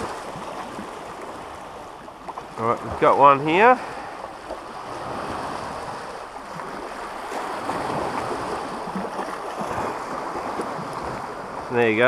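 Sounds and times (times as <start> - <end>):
small waves splashing on rocks: 0.0 - 11.8.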